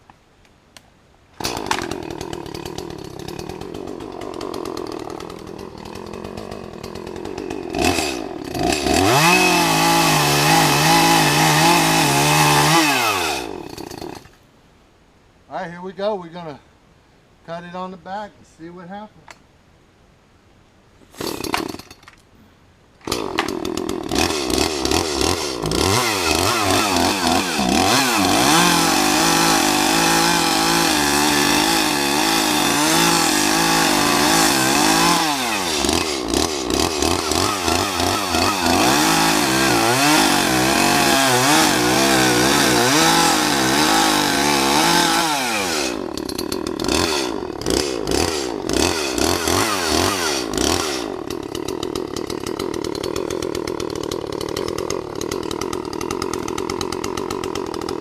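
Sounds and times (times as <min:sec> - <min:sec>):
chainsaw cutting tree: 0:01.4 - 0:14.4, 0:21.1 - 0:22.0, 0:23.0 - 0:58.0.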